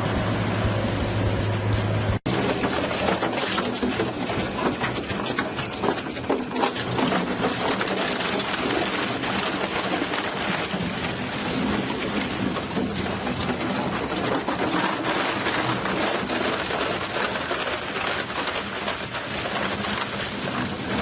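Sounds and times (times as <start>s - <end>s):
machinery rattling and clattering: 0.0s - 21.0s.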